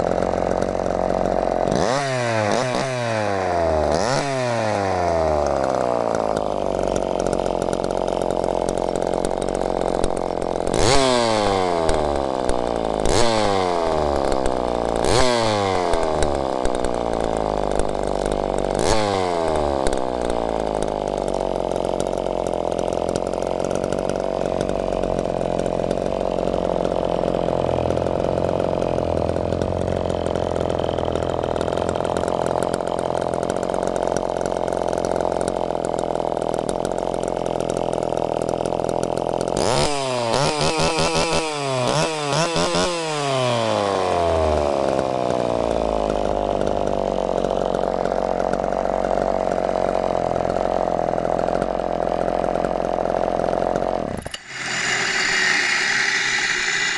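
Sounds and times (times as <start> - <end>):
chainsaw engine idling and revving: 0.0 - 56.9.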